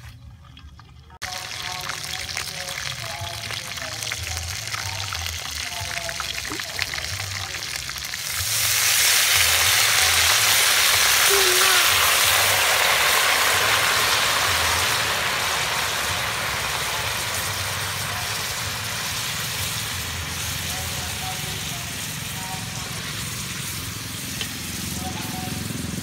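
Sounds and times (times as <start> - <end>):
liquid sizzling in hot pot: 1.2 - 26.0.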